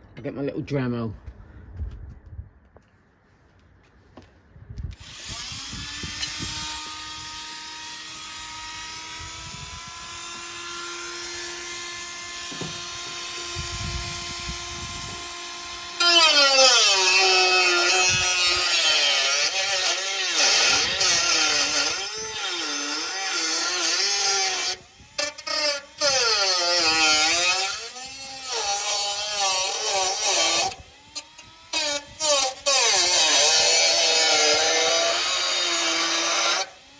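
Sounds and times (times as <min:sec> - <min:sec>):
rotary tool whining: 0:04.9 - 0:36.9
rotary tool cutting sheet steel: 0:05.0 - 0:36.9.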